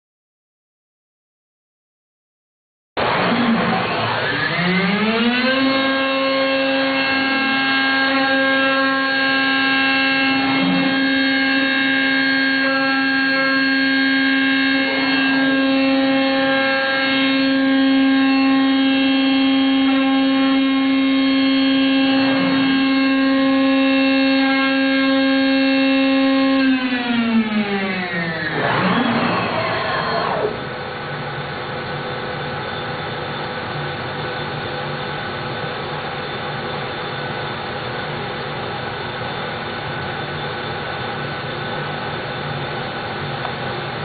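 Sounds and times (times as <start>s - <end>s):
router spindle high whine: 3.0s - 44.0s.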